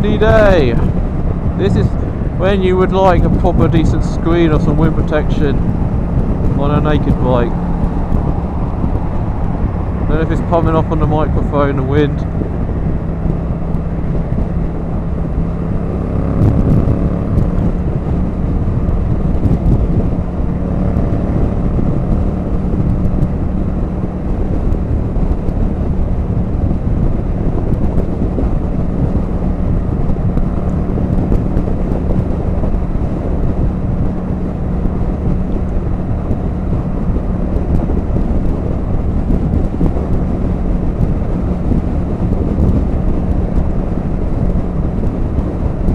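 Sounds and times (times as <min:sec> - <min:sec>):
motorcycle engine drone: 0:00.0 - 0:45.9
wind buffeting microphone: 0:00.0 - 0:45.9.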